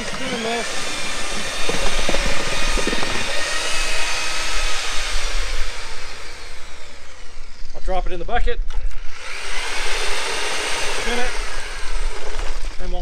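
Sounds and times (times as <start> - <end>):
power mixer churning slurry: 0.0 - 8.1, 8.7 - 13.0.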